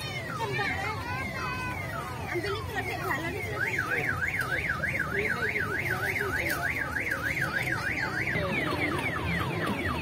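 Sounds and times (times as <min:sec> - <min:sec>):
crowd chatter: 0:00.0 - 0:10.0
electronic siren warbling: 0:01.6 - 0:10.0.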